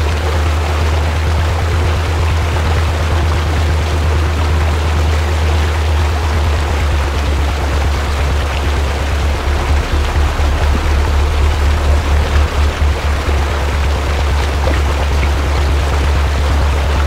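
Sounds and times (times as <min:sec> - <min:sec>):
rushing water of stream: 0:00.0 - 0:17.0.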